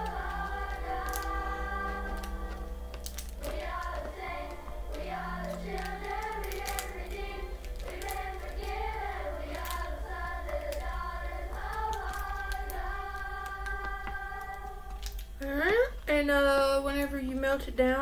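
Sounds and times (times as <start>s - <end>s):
person singing with music: 0.0s - 15.4s
steady low hum: 0.0s - 18.0s.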